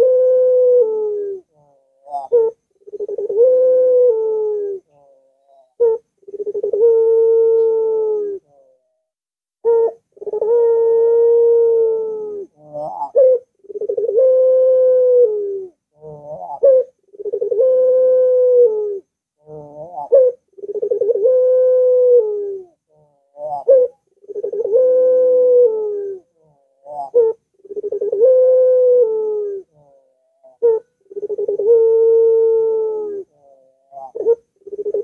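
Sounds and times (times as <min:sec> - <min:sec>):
dove cooing: 0:00.0 - 0:08.9, 0:09.6 - 0:35.0.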